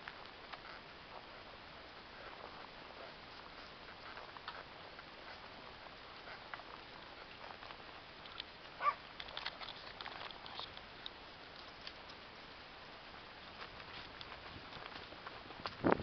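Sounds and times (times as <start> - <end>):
horse walking over grass: 0.0 - 16.0.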